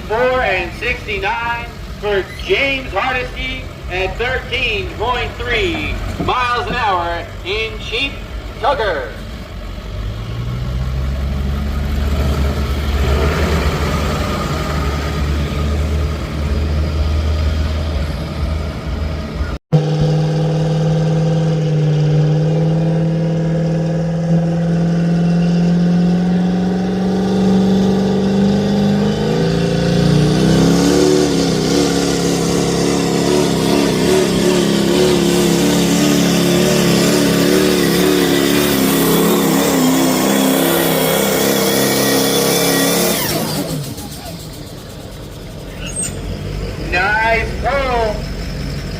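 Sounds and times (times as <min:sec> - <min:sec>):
truck engine under load: 0:00.0 - 0:48.9.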